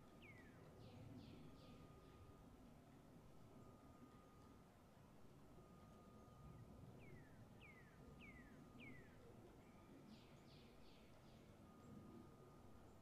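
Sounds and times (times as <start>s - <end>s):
faint steady high tone: 0.0s - 13.0s.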